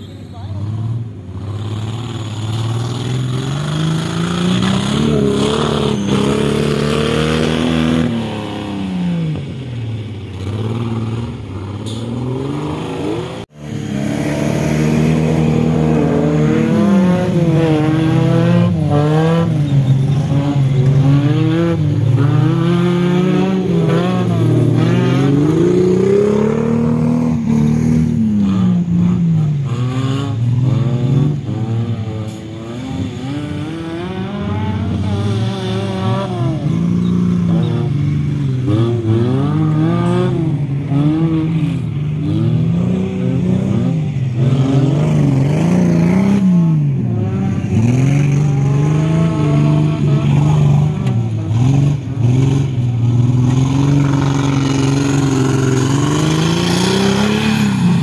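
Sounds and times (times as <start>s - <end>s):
buggy engines revving: 0.0s - 58.0s.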